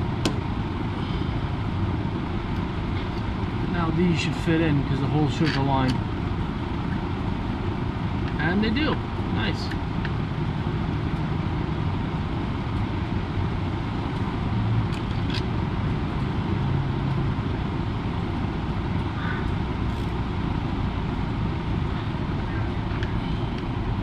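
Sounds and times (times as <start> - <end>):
low rumbling noise: 0.0 - 24.0.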